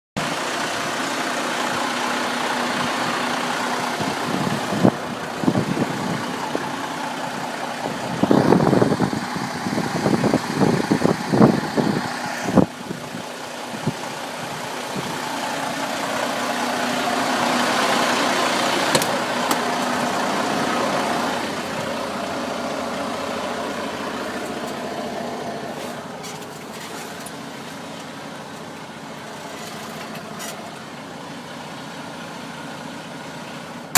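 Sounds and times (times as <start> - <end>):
truck engine running: 0.2 - 33.9.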